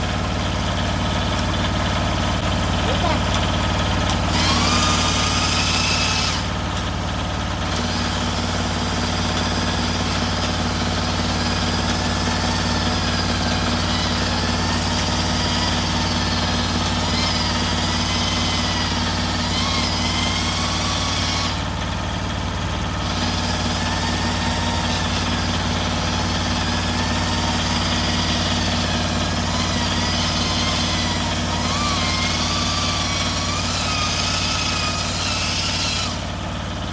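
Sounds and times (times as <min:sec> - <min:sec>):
hone squealing on cylinder wall: 0:00.0 - 0:36.9
motor hum: 0:00.0 - 0:36.9.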